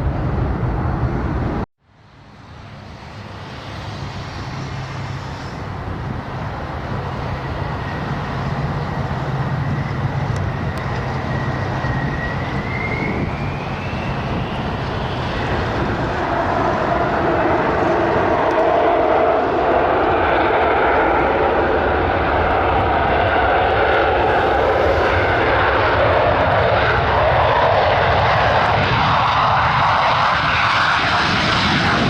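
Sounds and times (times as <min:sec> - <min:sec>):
aircraft engine rumble: 0:00.0 - 0:32.0
engine whine rising in pitch: 0:02.1 - 0:32.0.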